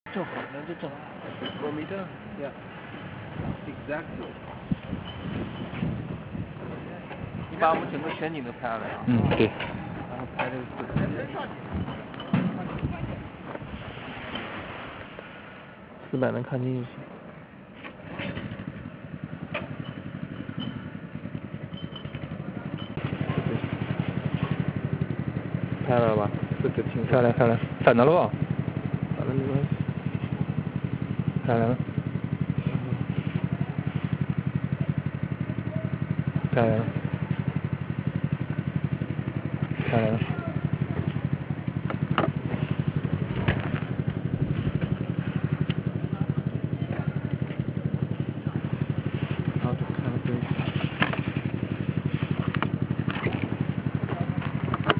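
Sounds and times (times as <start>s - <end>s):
machine running with low pulse: 0.1s - 15.9s, 17.4s - 54.9s.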